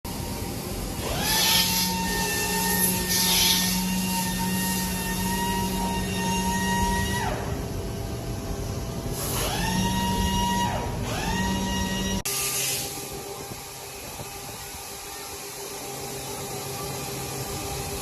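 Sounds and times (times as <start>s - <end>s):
machine spindle whining: 0.1s - 18.0s.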